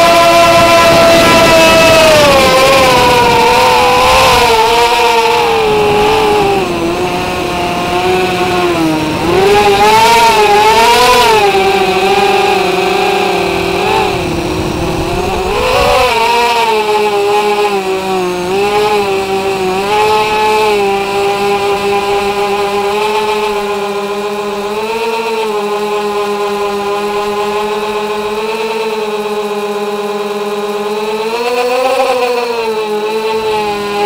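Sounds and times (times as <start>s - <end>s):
electric motors and propellers whining: 0.0s - 34.0s.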